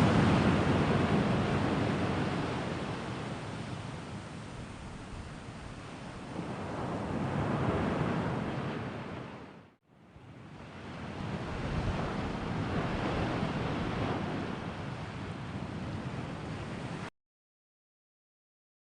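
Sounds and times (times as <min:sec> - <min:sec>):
sea waves washing on shore: 0:00.0 - 0:17.1.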